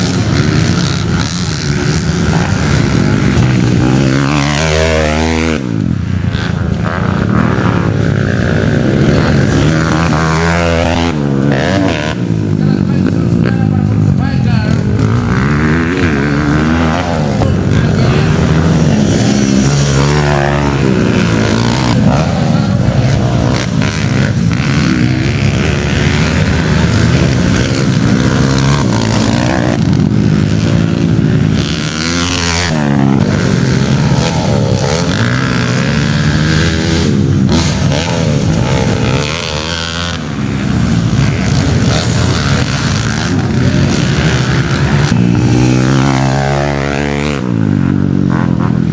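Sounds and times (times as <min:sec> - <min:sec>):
motocross bikes revving: 0:00.0 - 0:48.9.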